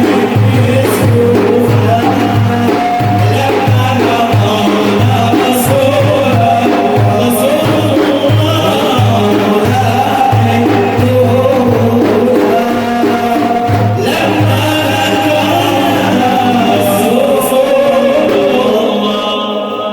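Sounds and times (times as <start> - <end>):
low drum accompaniment: 0.0 - 19.1
group singing devotional song: 0.0 - 19.9.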